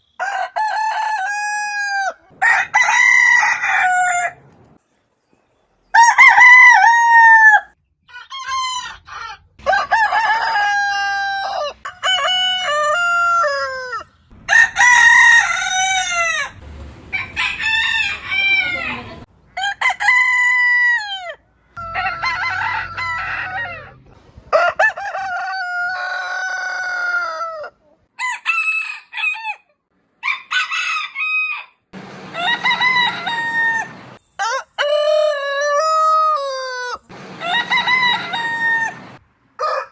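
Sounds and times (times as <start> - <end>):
roosters crowing: 0.1 - 4.8, 5.9 - 29.6, 30.2 - 39.9.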